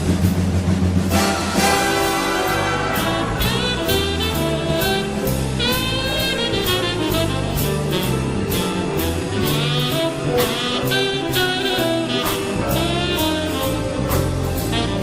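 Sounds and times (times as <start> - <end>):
jazz saxophone music: 1.1 - 15.0.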